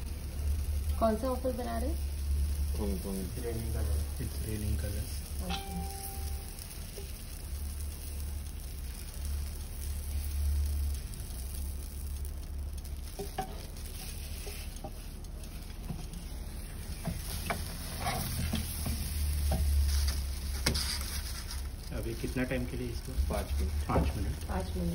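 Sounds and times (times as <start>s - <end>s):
batter sizzling on waffle iron: 0.0s - 24.9s
steady low hum: 0.0s - 24.9s.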